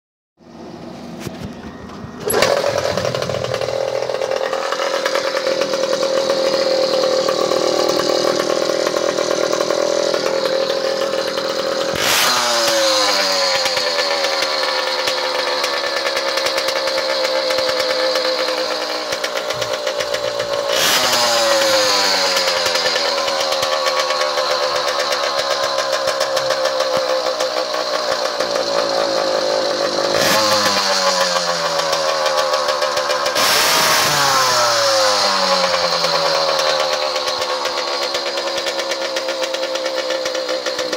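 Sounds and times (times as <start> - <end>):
two-stroke engine revving: 2.0 - 40.9.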